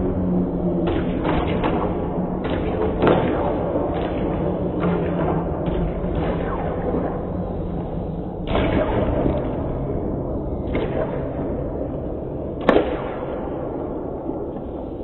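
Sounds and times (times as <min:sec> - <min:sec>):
sharp crack: 0:00.8 - 0:10.0, 0:10.6 - 0:14.9.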